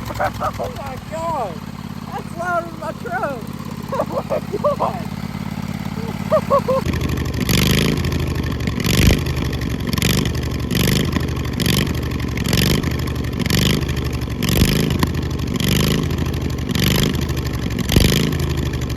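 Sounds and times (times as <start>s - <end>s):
lawnmower engine surging: 0.0s - 18.9s.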